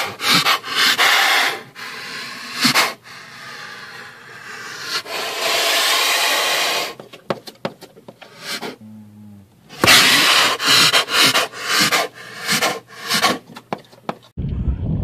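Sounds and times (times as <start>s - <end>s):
bear panting: 0.0s - 8.8s, 9.7s - 14.3s.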